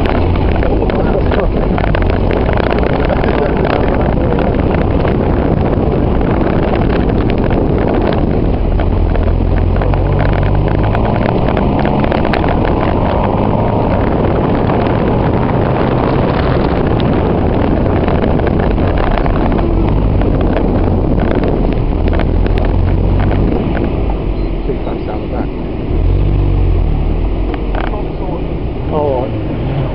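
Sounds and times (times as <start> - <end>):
car engine accelerating: 0.0 - 29.9
rumble of wind and rough ground: 0.0 - 29.9.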